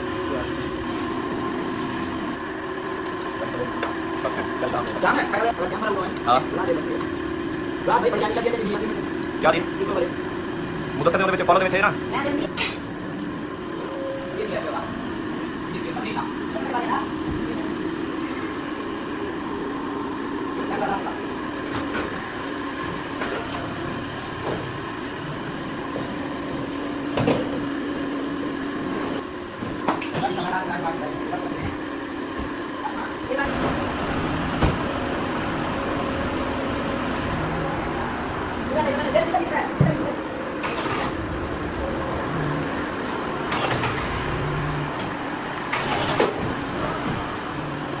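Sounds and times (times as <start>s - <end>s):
steady mechanical hum: 0.0s - 48.0s
car engine running: 3.4s - 29.2s, 33.2s - 48.0s.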